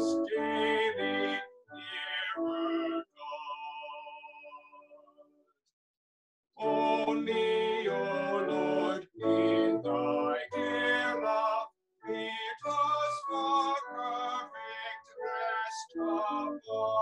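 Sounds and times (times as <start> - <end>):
man singing a hymn: 0.0 - 4.5, 6.6 - 17.0.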